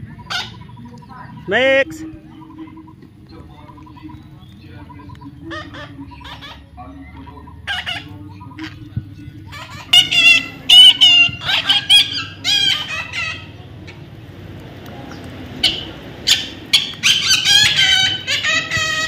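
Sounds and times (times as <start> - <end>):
baby parrots calling: 0.1 - 1.5, 3.6 - 14.1, 15.1 - 19.0.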